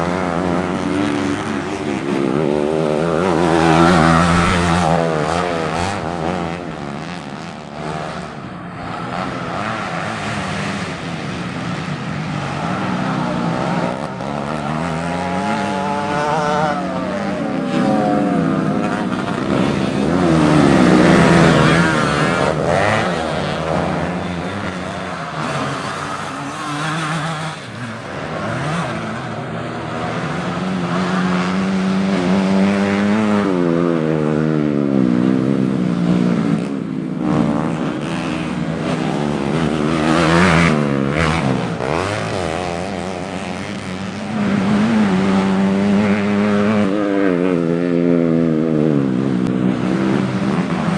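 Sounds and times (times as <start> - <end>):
motorcycle engines revving: 0.0 - 50.9.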